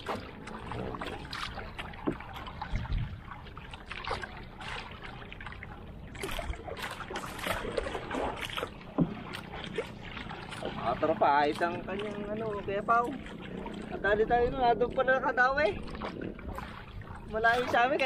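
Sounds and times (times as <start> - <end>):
paddle splashing in water: 0.0 - 14.2, 14.9 - 18.0
waves washing against hull: 0.0 - 18.0.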